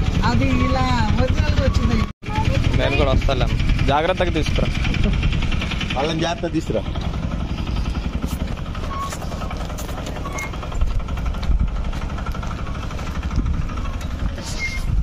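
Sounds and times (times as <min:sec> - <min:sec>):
diesel engine running: 0:00.0 - 0:15.0
vehicle rattling over stony road: 0:00.0 - 0:15.0.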